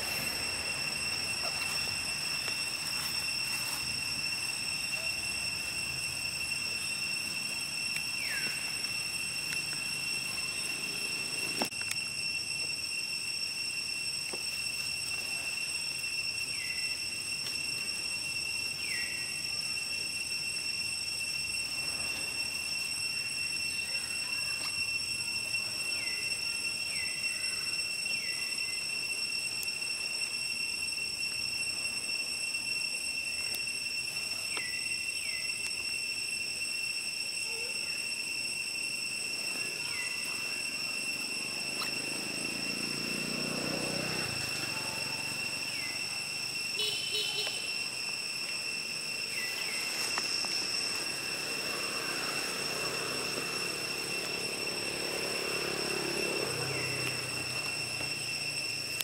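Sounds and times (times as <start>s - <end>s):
shrill insect chorus: 0.0s - 59.0s.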